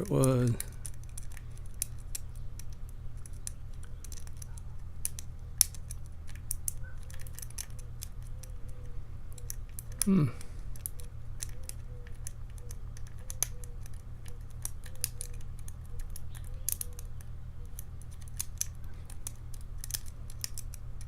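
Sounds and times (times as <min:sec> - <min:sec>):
metallic clicks and scrapes of lock picking: 0:00.1 - 0:10.1, 0:10.7 - 0:21.0.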